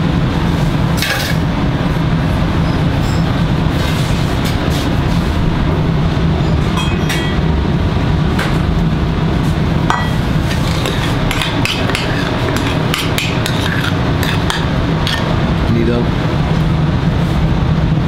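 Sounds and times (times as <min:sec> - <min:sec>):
low kitchen rumble: 0:00.0 - 0:18.0.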